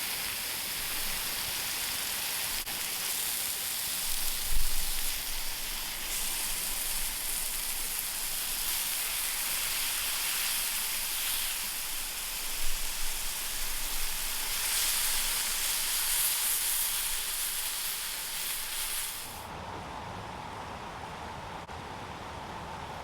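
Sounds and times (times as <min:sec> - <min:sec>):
food sizzling in a hot pan: 0:00.0 - 0:19.5.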